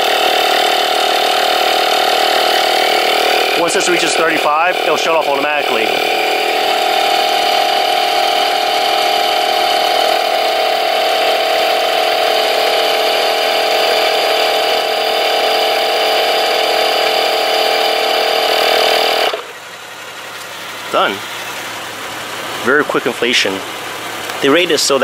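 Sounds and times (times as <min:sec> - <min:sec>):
air compressor humming: 0:00.0 - 0:25.0.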